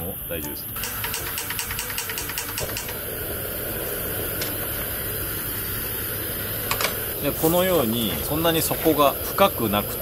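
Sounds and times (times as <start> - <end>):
gas stove burner hissing: 0.0 - 10.0.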